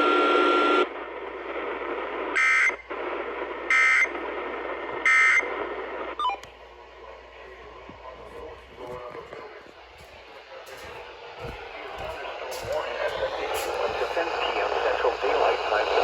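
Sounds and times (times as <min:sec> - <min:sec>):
radio hiss: 0:00.0 - 0:16.0.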